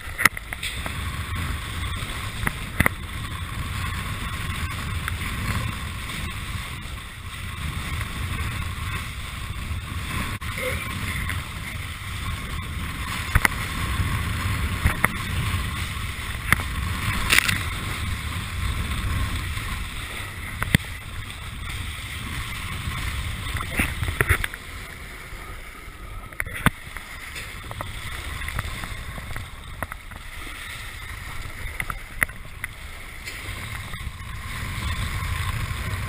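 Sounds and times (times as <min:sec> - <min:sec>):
board slapping water: 0:00.0 - 0:36.0
rush of wind and water: 0:00.0 - 0:36.0.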